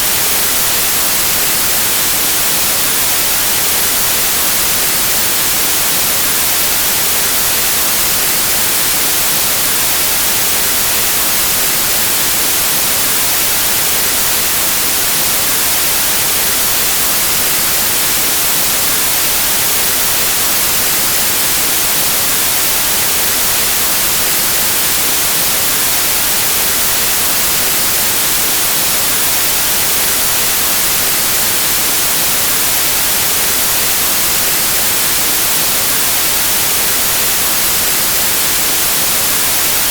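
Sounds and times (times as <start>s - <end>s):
white noise static hiss: 0.0s - 39.9s.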